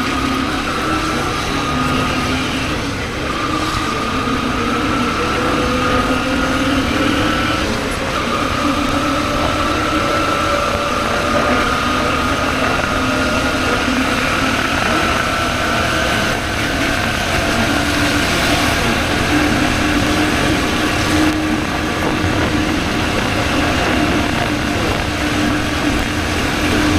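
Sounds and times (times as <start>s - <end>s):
motorcycle engine running: 0.0s - 26.9s
road and wind noise: 0.0s - 26.9s.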